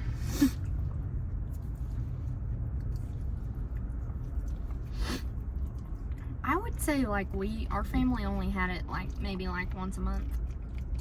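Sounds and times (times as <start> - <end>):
people chewing food: 0.0 - 11.0
steady low hum: 0.0 - 11.0.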